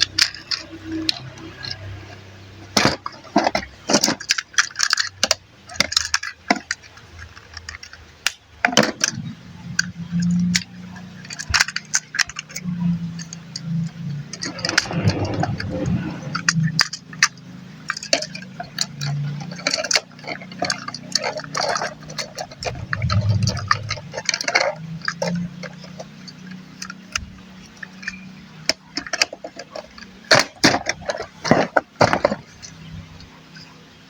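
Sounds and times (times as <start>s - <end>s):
plastic toy parts clicking: 0.0s - 33.8s.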